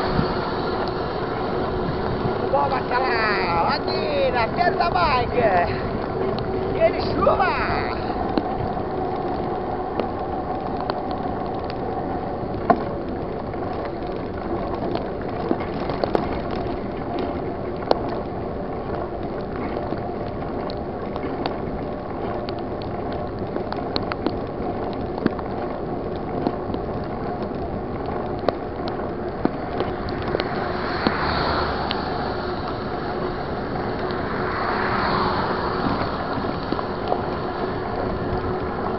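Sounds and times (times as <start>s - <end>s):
bike wheels whirring on wet road: 0.0s - 38.9s
car passing: 0.0s - 38.9s
heavy rain: 0.0s - 38.9s.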